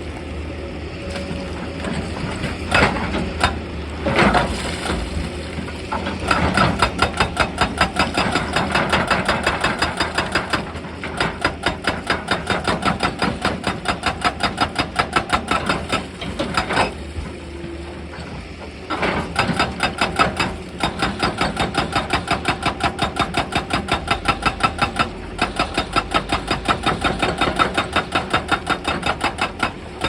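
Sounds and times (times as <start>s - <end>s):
hydraulic rock breaker hammering stone: 2.2s - 17.3s, 18.9s - 30.0s.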